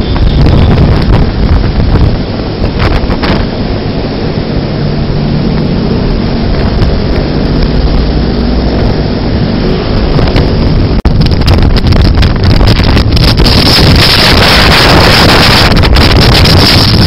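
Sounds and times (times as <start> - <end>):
vehicle engine and road noise: 0.0 - 17.0
wind buffeting microphone: 0.0 - 17.0.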